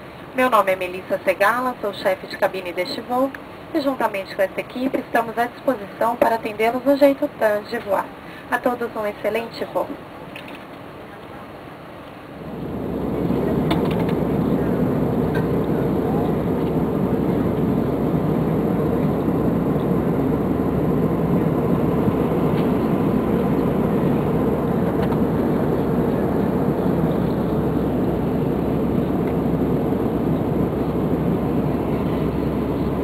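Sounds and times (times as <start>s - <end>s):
airplane cabin rumble: 0.8s - 33.0s.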